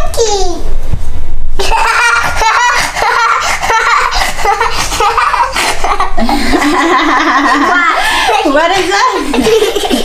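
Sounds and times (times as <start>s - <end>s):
children laughing: 1.6s - 10.0s.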